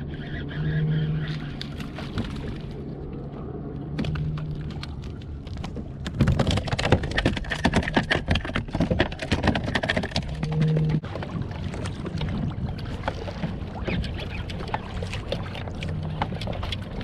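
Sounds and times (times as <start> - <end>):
water splashing and dripping: 1.2 - 2.9, 3.9 - 17.0.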